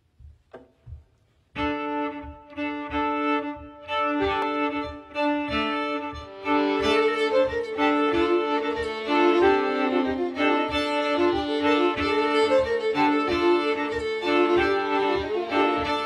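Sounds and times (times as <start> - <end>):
steady low thump: 0.0 - 16.0
bowed string quartet: 1.6 - 16.0.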